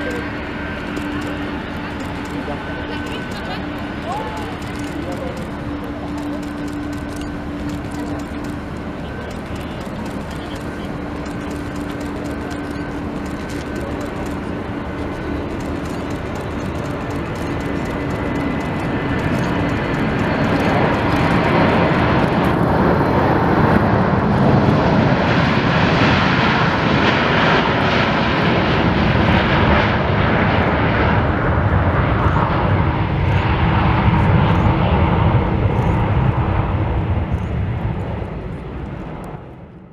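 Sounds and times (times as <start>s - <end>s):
jet engines at takeoff: 0.0s - 39.9s.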